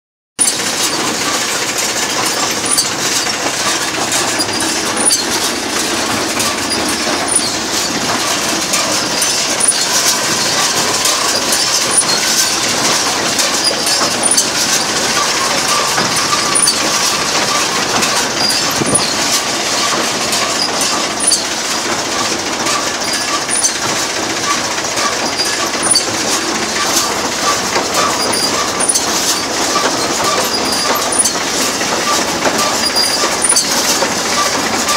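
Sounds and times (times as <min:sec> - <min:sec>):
baler clattering and rattling: 0:00.4 - 0:34.9.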